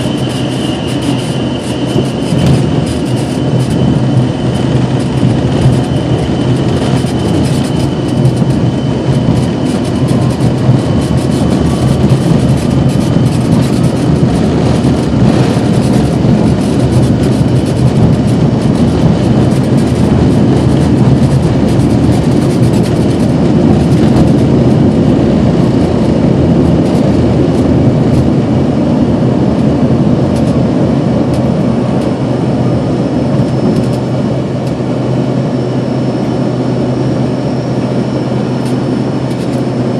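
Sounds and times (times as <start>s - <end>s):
faint rising whine: 0.0s - 39.9s
jet engines and rushing air: 0.0s - 39.9s.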